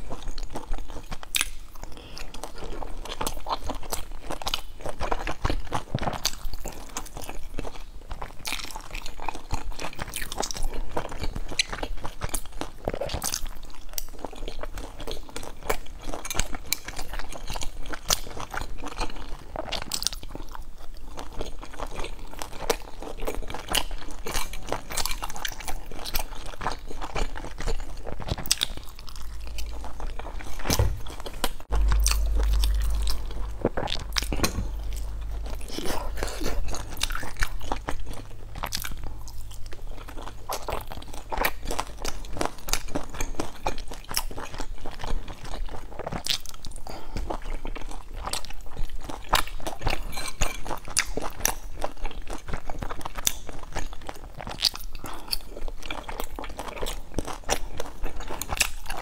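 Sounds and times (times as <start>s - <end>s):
crackly clicks and wet mouth sounds: 0.0s - 30.7s, 31.4s - 59.0s
biting and chewing: 0.0s - 59.0s.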